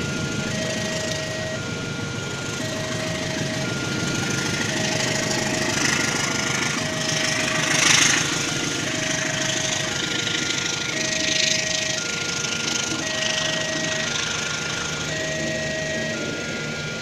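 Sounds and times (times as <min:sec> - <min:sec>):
level crossing two-tone alarm: 0:00.0 - 0:17.0.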